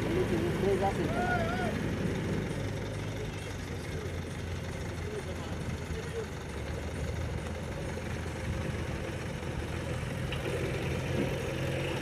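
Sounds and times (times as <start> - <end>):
heavy diesel engines droning: 0.0 - 12.0.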